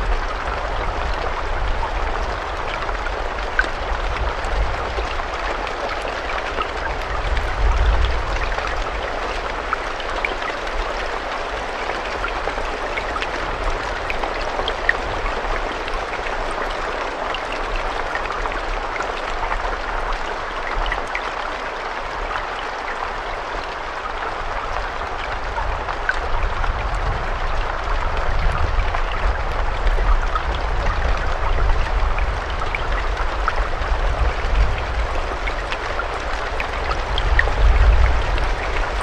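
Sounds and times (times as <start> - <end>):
rainfall: 0.0 - 39.0.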